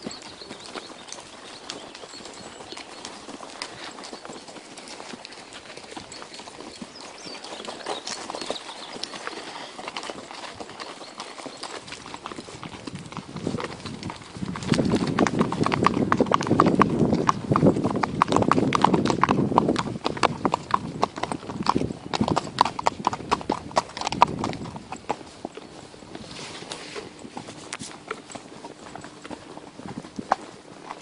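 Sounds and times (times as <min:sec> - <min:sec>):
hooves clip-clopping on pavement: 0:00.0 - 0:31.0.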